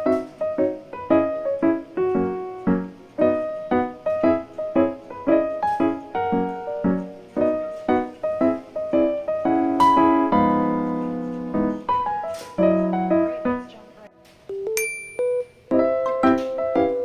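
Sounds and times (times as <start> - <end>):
light piano tune: 0.0 - 17.0.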